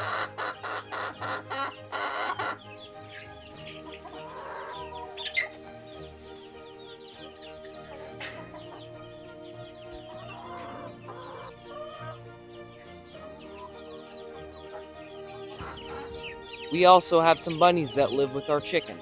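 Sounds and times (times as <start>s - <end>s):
background music: 0.0s - 19.0s
chickens squawking and clucking: 0.0s - 19.0s.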